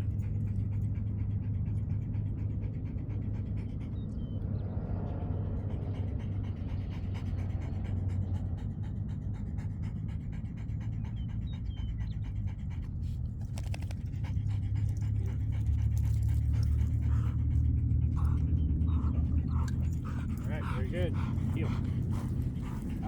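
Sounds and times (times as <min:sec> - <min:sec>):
dog panting: 0:00.0 - 0:23.0.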